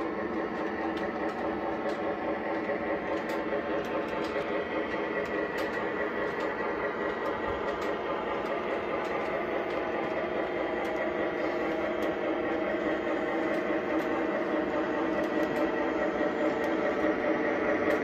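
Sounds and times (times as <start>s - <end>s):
faint irregular clicks: 0.0s - 18.0s
model train motor and wheel rumble: 0.0s - 18.0s.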